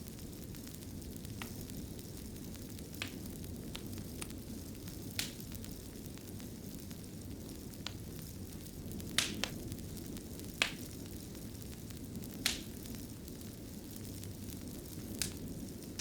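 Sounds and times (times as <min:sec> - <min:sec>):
fire crackles and pops: 0:00.0 - 0:16.0
low rumble of flame: 0:00.0 - 0:16.0.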